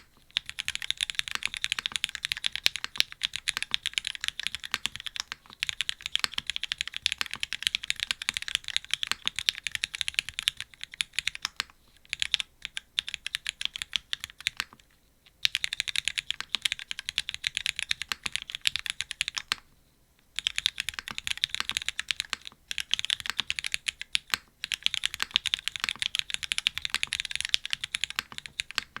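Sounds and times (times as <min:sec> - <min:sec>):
fast mechanical keyboard typing: 0:00.0 - 0:14.8, 0:15.4 - 0:19.6, 0:20.4 - 0:29.0.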